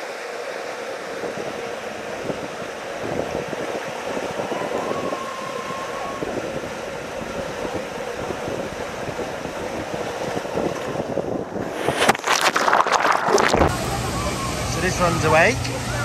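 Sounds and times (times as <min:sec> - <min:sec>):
rider sliding down water slide: 0:00.0 - 0:16.0.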